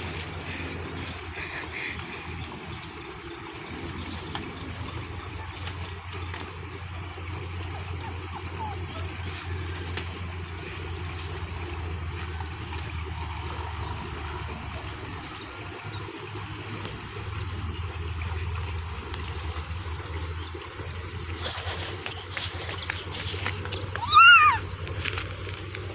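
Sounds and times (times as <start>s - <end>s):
water rushing along canal: 0.0s - 25.9s.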